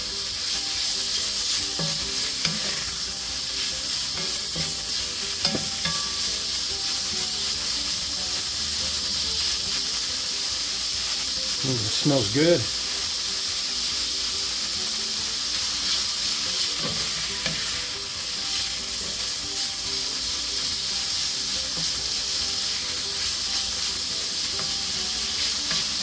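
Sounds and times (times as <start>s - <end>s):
beef sizzling in oil: 0.0s - 26.0s.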